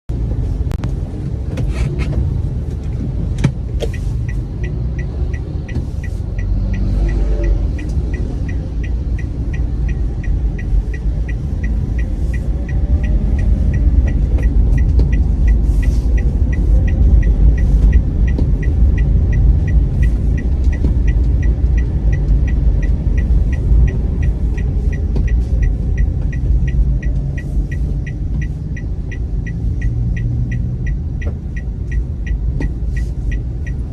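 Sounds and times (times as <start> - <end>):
car engine low rumble: 0.1 - 33.9
turn signal ticking: 0.1 - 33.9.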